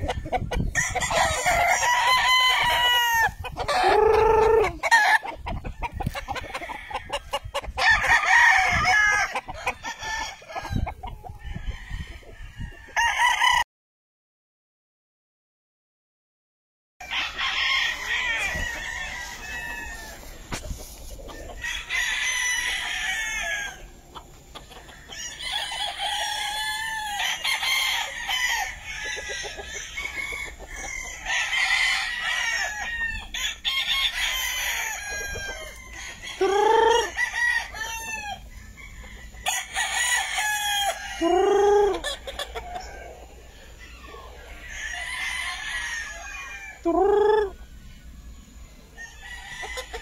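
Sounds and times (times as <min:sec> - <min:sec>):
roosters crowing: 0:00.0 - 0:13.7, 0:17.0 - 0:50.0.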